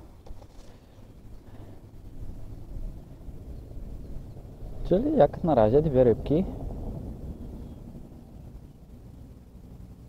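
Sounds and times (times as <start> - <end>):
wind buffeting microphone: 1.1 - 10.0.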